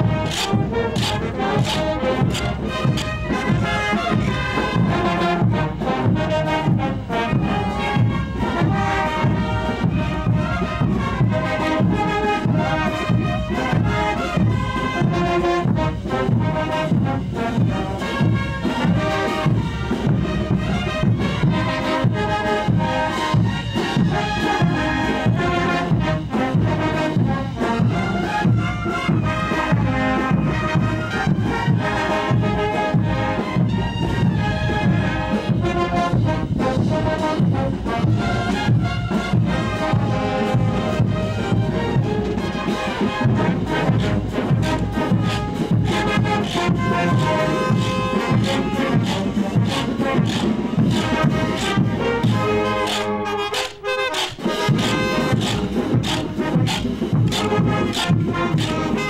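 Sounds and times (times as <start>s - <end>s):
brass band playing dance tune: 0.0s - 59.0s
drums and percussion beat: 0.0s - 59.0s.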